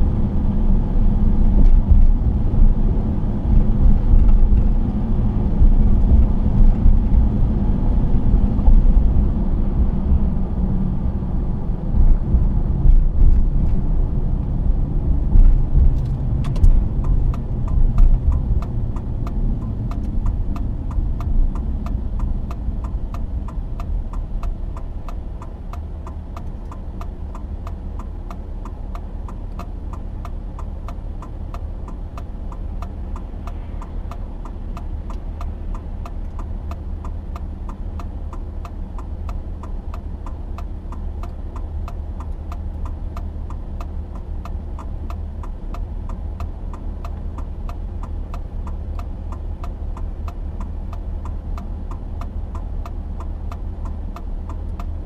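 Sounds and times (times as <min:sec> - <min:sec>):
car engine and road rumble: 0:00.0 - 0:55.0
turn signal ticking: 0:00.0 - 0:55.0.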